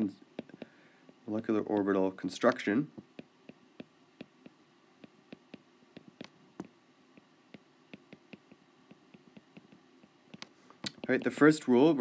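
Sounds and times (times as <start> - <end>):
stylus tapping tablet screen: 0.3 - 11.6.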